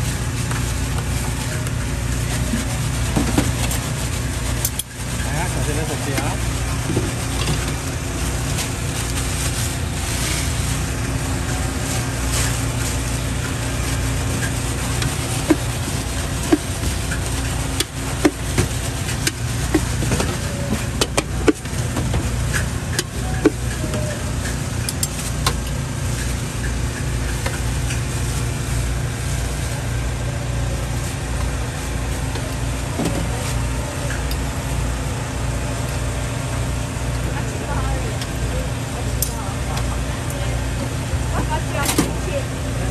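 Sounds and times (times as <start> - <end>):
low street background rumble: 0.0 - 42.9.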